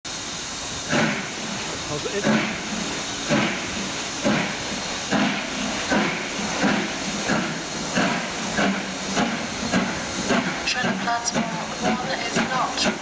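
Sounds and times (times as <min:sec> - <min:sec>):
hiss of steam: 0:00.1 - 0:13.0
steam locomotive chuffing: 0:00.1 - 0:13.0.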